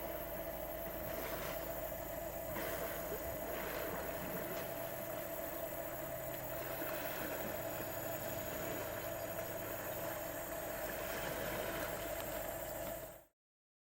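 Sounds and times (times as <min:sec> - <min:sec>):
engine idling: 0:00.0 - 0:13.2
mid-pitched hum: 0:00.0 - 0:13.3.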